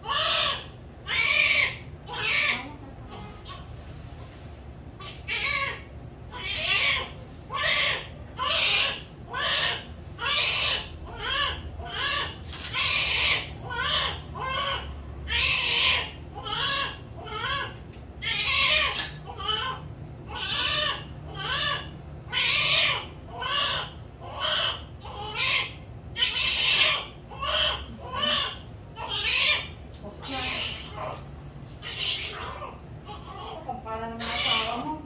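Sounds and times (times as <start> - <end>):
newborn baby crying: 0.0 - 3.7, 5.0 - 34.9.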